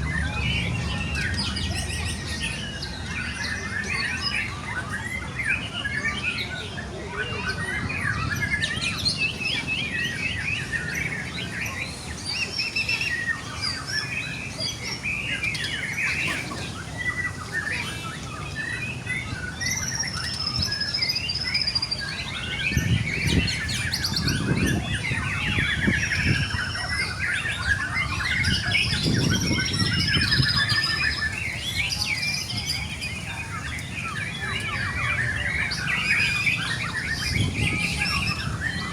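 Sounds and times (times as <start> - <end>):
bird singing whistles and trills: 0.0 - 38.9
other songbirds singing: 0.0 - 38.9.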